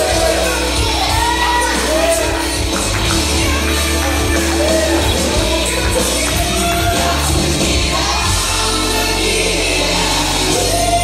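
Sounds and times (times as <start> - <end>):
heavy bass line: 0.0 - 11.0
person singing: 0.0 - 11.0.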